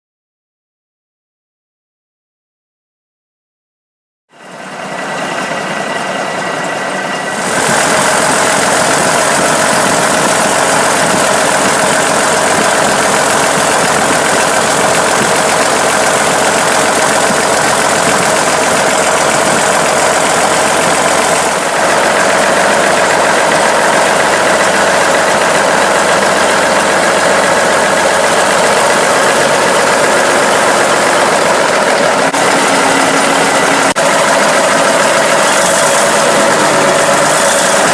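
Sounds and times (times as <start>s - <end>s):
diesel engine clattering: 4.8s - 37.9s.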